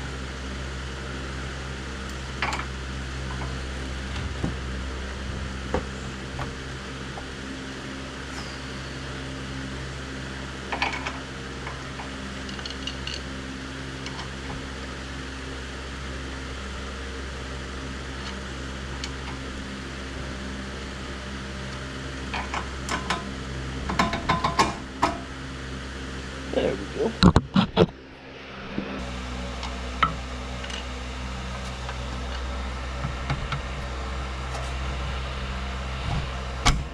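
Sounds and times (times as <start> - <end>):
steady mechanical hum: 0.0 - 36.9.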